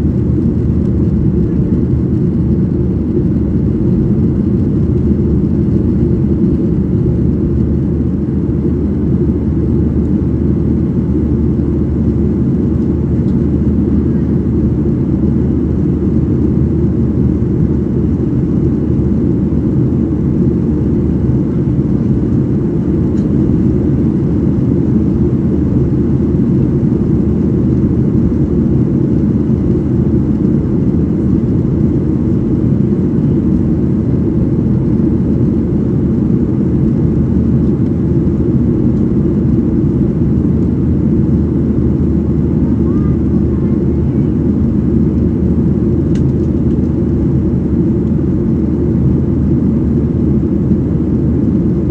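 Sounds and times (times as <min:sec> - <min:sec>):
airplane cabin engine noise: 0:00.0 - 0:51.9.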